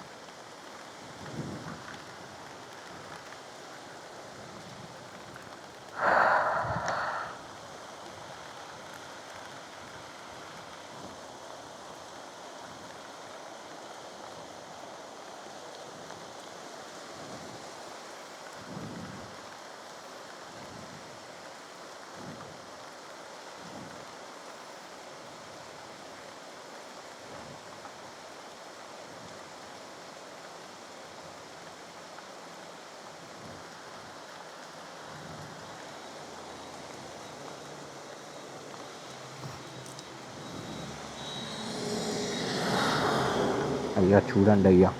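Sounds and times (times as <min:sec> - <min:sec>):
heavy rain hissing: 0:00.0 - 0:44.9.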